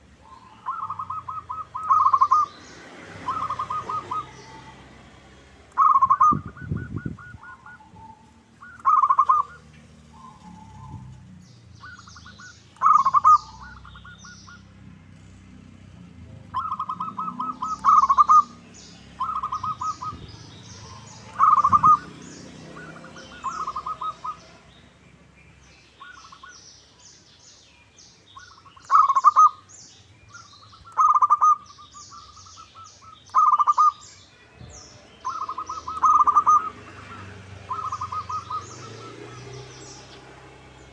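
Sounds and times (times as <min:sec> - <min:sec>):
doves trilled cooing: 0:00.0 - 0:25.0, 0:25.9 - 0:26.8, 0:28.3 - 0:40.9
small birds chirping: 0:00.0 - 0:40.9.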